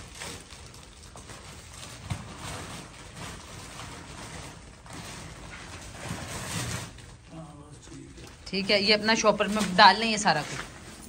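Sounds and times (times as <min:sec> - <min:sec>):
plastic sack rustling and crinkling: 0:00.0 - 0:11.0.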